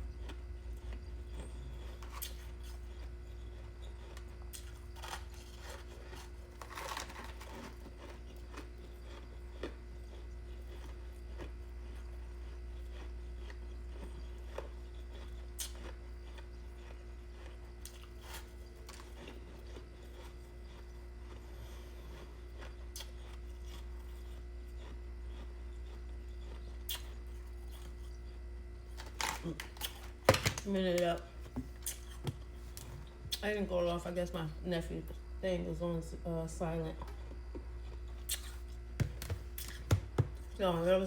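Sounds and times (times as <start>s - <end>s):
chewing crunchy ice: 0.0s - 33.4s, 37.0s - 41.0s
steady low hum: 0.0s - 41.0s.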